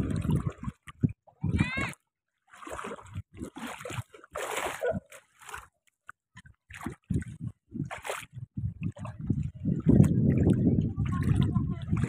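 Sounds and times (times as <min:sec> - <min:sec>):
footsteps wading through water: 0:00.0 - 0:12.0.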